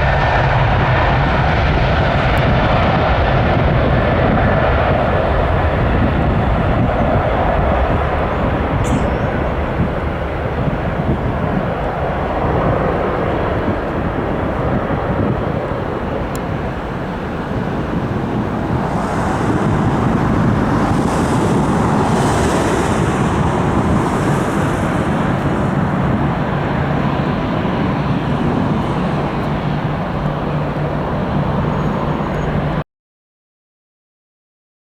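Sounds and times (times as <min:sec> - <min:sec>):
jet airliner passing: 0:00.0 - 0:32.8.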